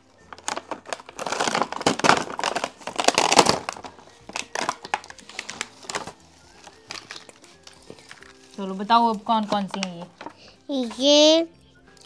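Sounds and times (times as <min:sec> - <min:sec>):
toy packaging crinkling: 0:00.2 - 0:11.2.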